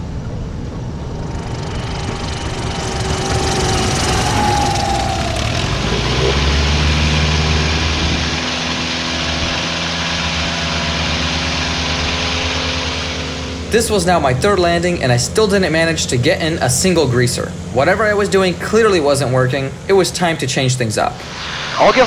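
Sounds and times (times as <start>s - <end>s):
propeller plane engine: 0.0s - 22.0s.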